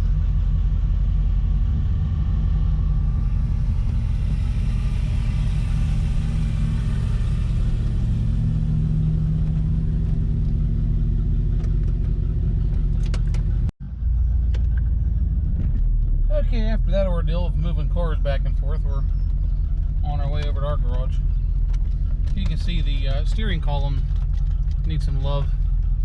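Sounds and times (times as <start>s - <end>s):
car engine rumble: 0.0s - 26.0s.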